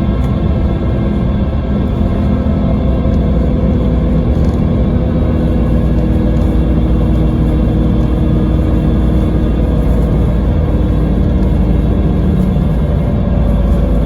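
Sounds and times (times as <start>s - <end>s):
coach diesel engine droning: 0.0s - 14.0s.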